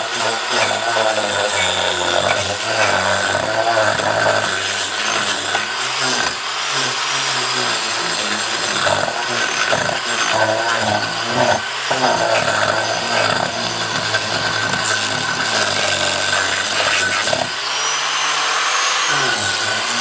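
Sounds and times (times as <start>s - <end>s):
angle grinder grinding wood: 0.0s - 20.0s.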